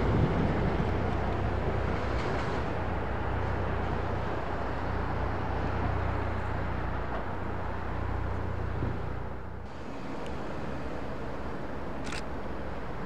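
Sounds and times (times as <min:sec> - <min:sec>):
train running past: 0:00.0 - 0:13.0.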